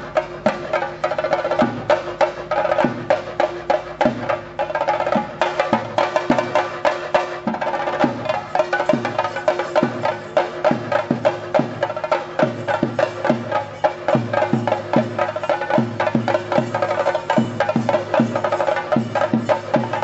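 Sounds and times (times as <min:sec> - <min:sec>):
drums beaten with sticks: 0:00.0 - 0:20.0.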